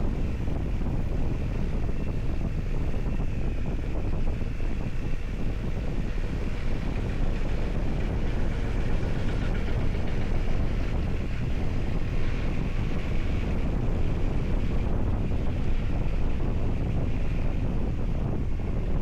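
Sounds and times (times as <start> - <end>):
vehicle road noise: 0.0 - 19.0
wind on microphone: 0.0 - 19.0.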